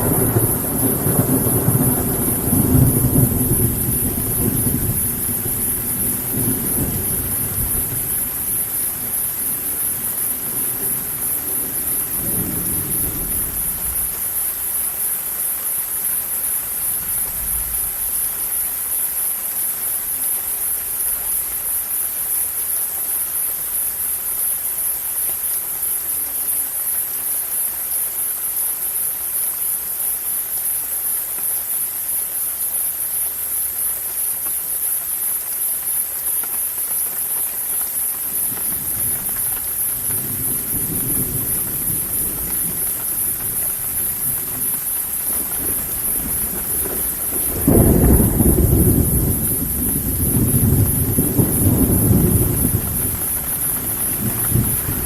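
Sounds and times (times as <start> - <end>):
constant high hiss: 0.0 - 55.0
steady rain falling: 0.0 - 55.0.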